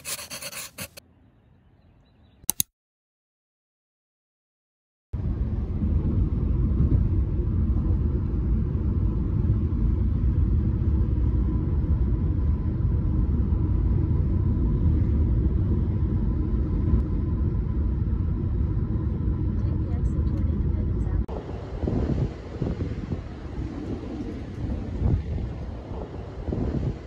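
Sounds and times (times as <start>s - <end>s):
car road noise rumble: 5.2s - 27.0s.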